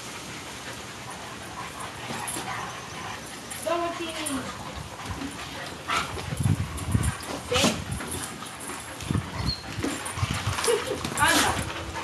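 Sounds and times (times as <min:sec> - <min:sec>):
dogs playing rough: 0:00.1 - 0:12.0.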